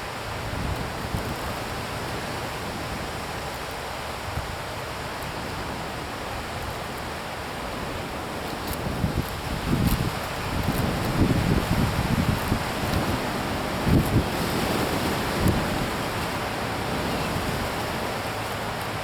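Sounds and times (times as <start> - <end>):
wind through leaves: 0.0 - 19.0
wind gusts on microphone: 0.1 - 3.4, 4.2 - 19.0.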